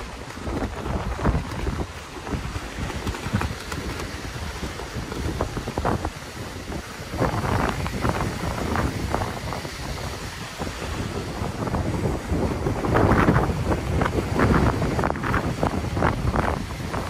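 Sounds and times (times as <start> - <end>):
fabric canopy flapping: 0.0 - 17.0
wind gusts on microphone: 0.0 - 17.0.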